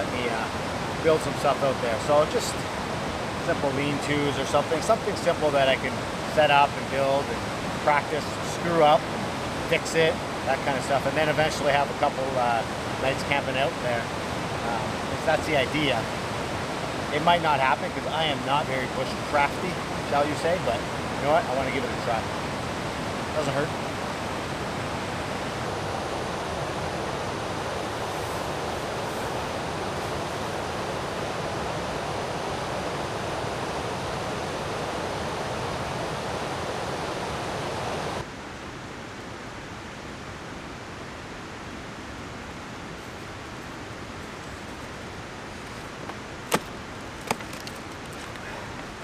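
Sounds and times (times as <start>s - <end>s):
river water rushing over rapids: 0.0s - 49.0s.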